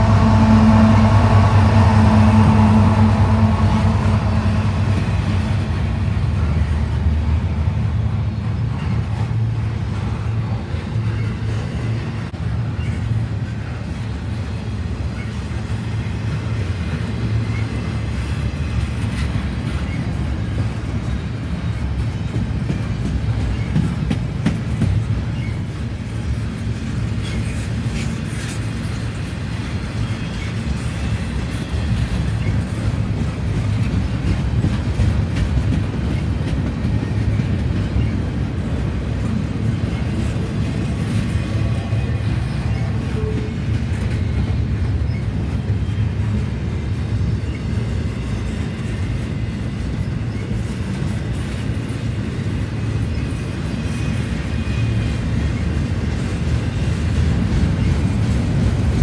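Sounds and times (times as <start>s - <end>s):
clicks of train wheels: 0.0s - 59.0s
steel wheels rumbling on rails: 0.0s - 59.0s.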